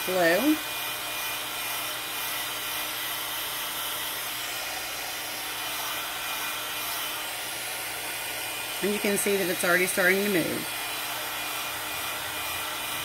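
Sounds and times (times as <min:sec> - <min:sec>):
heat gun blowing hot air: 0:00.0 - 0:13.0.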